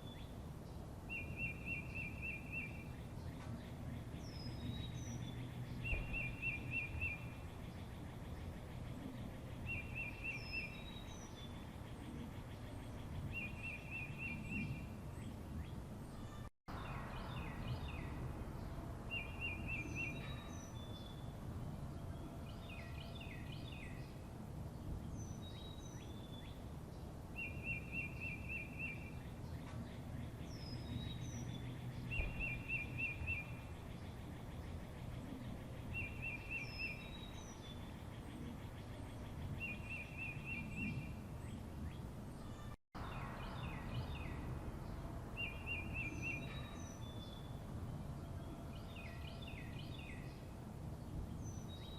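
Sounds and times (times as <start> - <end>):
low background noise: 0.0 - 51.9
small songbirds singing: 0.0 - 51.9.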